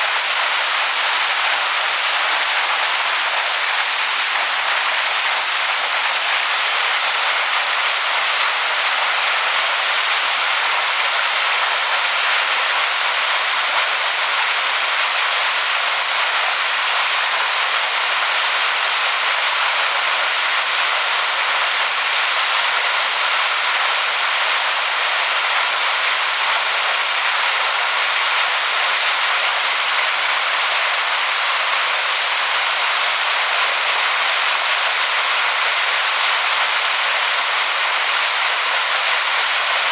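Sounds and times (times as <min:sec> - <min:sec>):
waterfall rushing onto rocks: 0:00.0 - 0:39.9.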